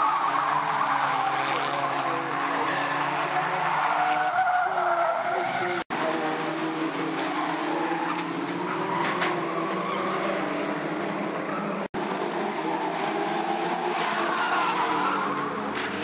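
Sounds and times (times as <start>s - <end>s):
stock car engines racing: 0.0s - 16.0s.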